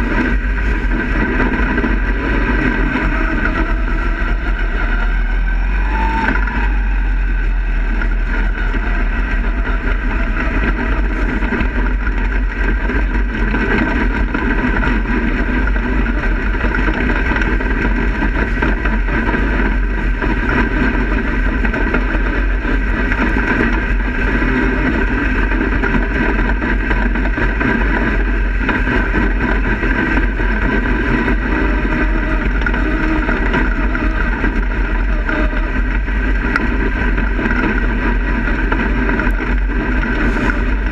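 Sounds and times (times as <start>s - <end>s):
race car engine running: 0.0s - 40.9s
wind buffeting microphone: 0.0s - 40.9s.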